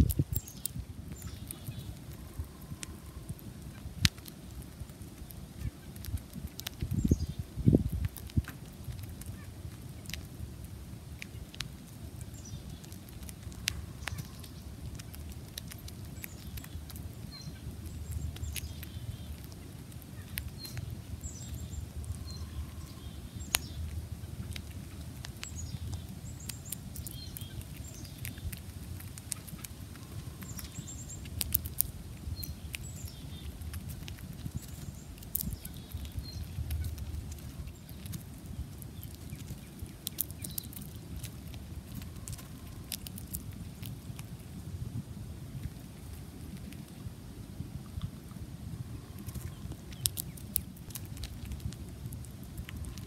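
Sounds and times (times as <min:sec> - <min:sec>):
small birds chirping: 0:00.0 - 0:44.6, 0:48.8 - 0:53.0
squirrel chewing seeds: 0:00.0 - 0:53.0.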